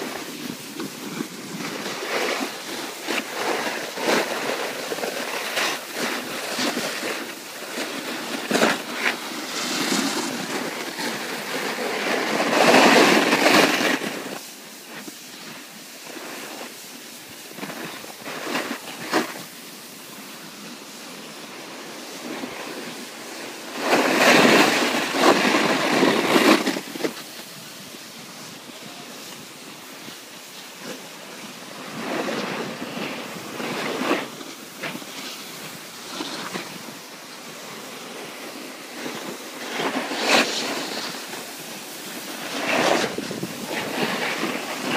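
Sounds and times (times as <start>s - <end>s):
edges scraping over packed snow: 0.0s - 44.9s.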